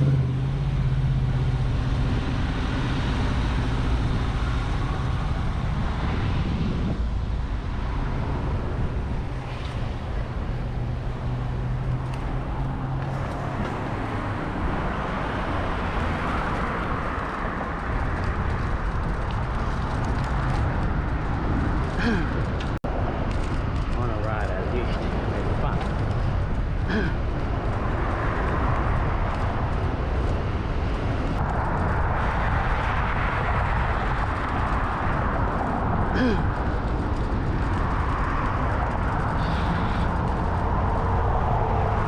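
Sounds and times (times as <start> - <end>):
low engine hum: 0.0 - 42.0
road traffic: 0.0 - 42.0
wind rushing over microphone: 0.0 - 42.0.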